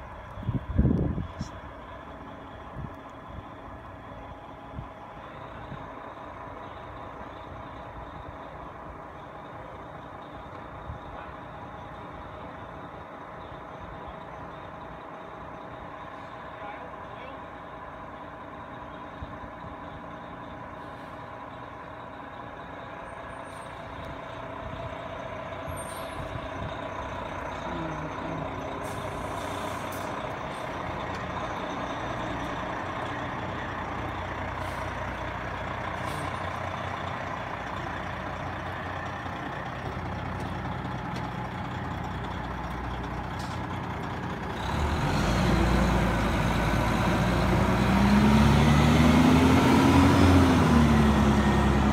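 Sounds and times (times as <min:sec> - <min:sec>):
fire engine diesel engine: 0:00.0 - 0:51.9.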